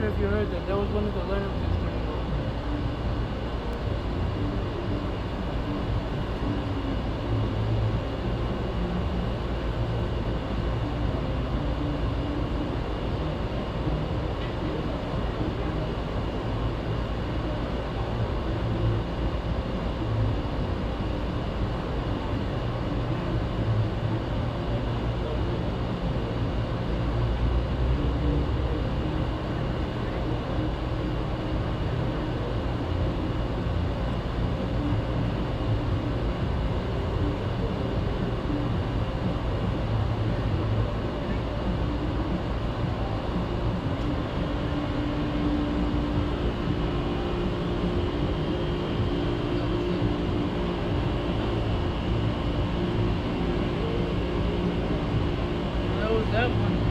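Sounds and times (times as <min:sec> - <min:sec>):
compressor and fan hum: 0:00.0 - 0:56.9
faint steady tones: 0:00.0 - 0:56.9.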